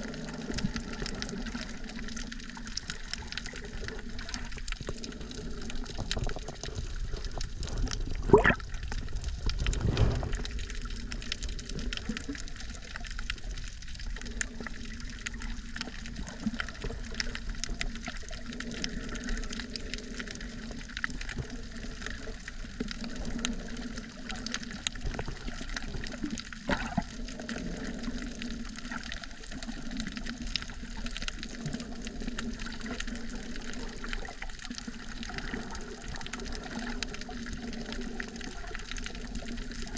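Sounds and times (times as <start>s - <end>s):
low water swirls: 0.0s - 39.9s
muffled underwater wash: 0.0s - 39.9s.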